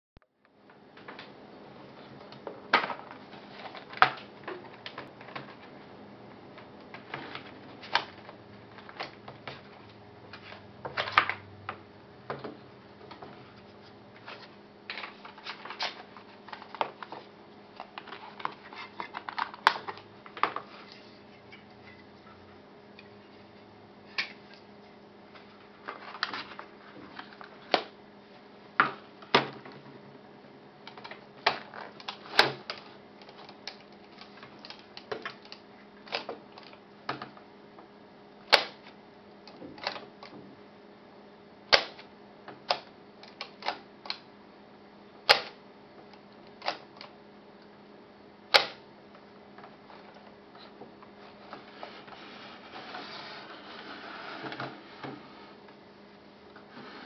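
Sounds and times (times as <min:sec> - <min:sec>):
faint steady hum: 0:00.2 - 0:57.0.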